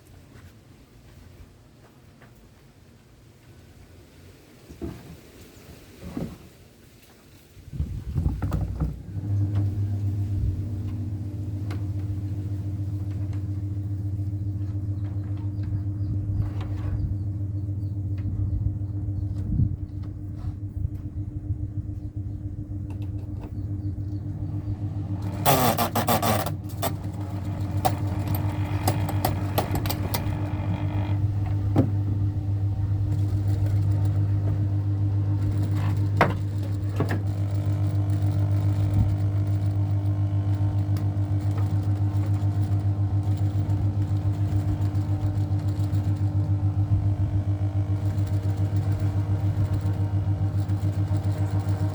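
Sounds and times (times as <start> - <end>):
ceiling fan motor humming: 7.6 - 51.9.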